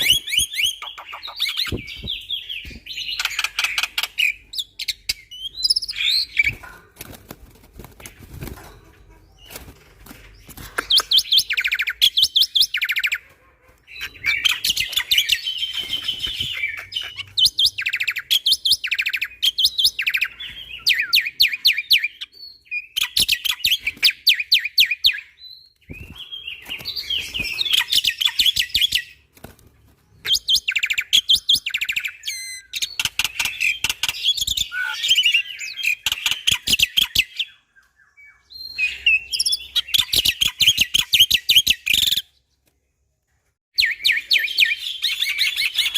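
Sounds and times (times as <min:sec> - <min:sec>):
bird chattering song: 0:00.0 - 0:06.9, 0:08.0 - 0:29.2, 0:30.2 - 0:42.4.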